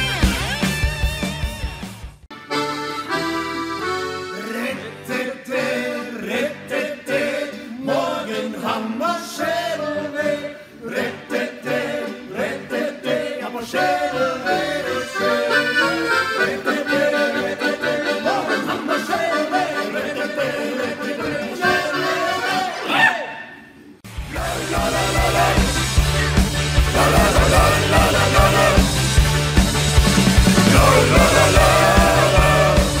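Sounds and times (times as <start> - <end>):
accordion playing folk tune: 2.3 - 8.2, 9.6 - 22.9, 24.4 - 33.0.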